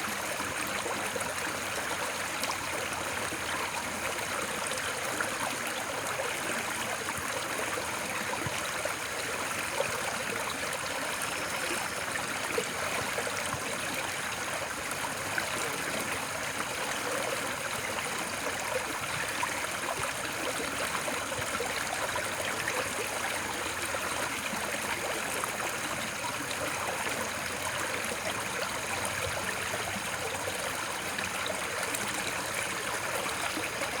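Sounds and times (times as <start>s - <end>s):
stream flowing over rocks: 0.0s - 34.0s.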